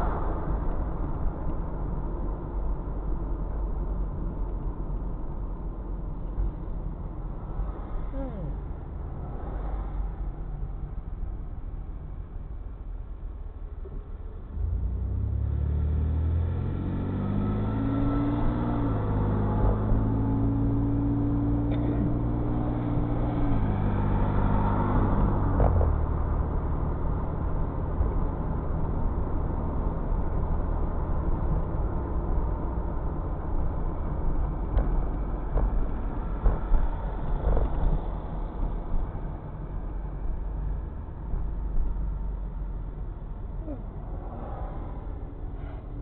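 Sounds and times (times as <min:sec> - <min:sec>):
car engine from inside cabin: 0:00.0 - 0:46.0
tyre road noise: 0:00.0 - 0:46.0.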